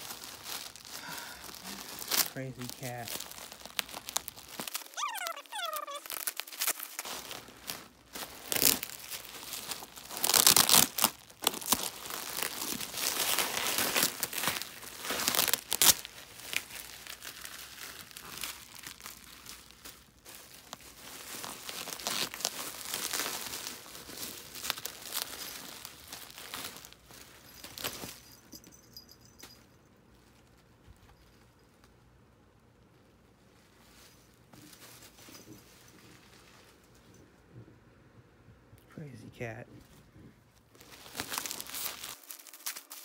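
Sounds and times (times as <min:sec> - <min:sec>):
bubble wrap crinkling: 0:00.0 - 0:32.1, 0:32.8 - 0:37.2, 0:39.9 - 0:43.0.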